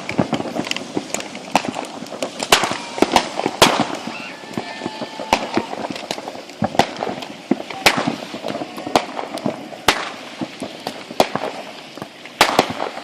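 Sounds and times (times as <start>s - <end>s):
fireworks and firecrackers banging: 0.0s - 13.0s.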